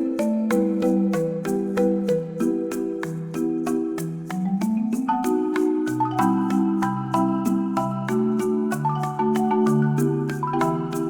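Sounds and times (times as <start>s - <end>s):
marimba melody: 0.0s - 11.0s.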